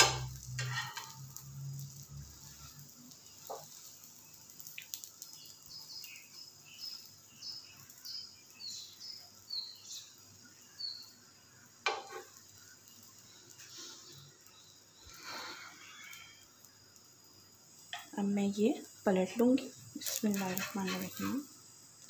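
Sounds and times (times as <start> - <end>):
bread frying on a griddle: 0.0 - 22.0.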